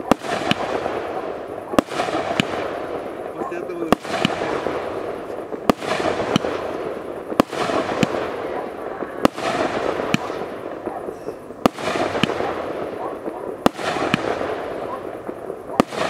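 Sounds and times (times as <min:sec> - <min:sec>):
crackling hiss of bursting stars: 0:00.0 - 0:16.0
fireworks sharp reports: 0:00.0 - 0:16.0.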